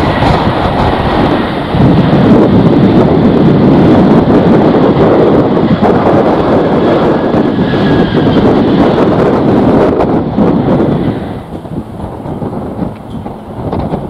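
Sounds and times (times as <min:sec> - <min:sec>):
airliner engines rushing: 0:00.0 - 0:14.0
wind buffeting microphone: 0:00.0 - 0:14.0.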